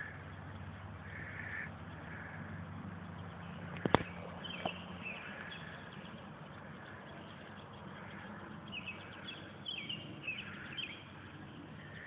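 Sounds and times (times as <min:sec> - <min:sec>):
birds chirping: 0:00.0 - 0:12.0
faint outdoor background: 0:00.0 - 0:12.0.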